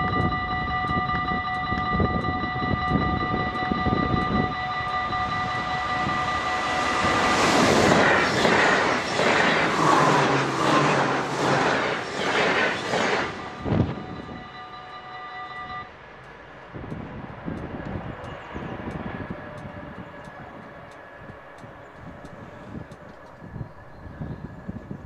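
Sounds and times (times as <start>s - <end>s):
crossing warning bell ringing: 0.0s - 23.2s.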